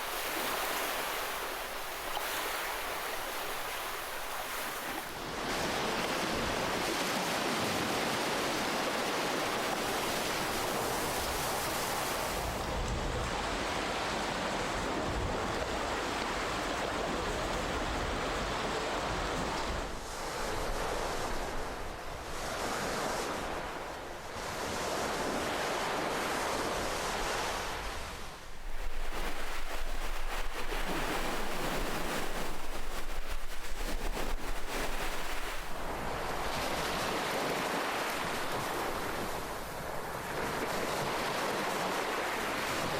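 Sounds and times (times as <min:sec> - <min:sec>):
ocean waves washing: 0:00.0 - 0:42.9.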